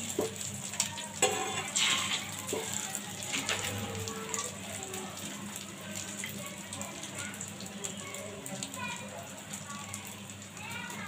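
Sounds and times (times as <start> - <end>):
omelette sizzling in pan: 0.0 - 11.0.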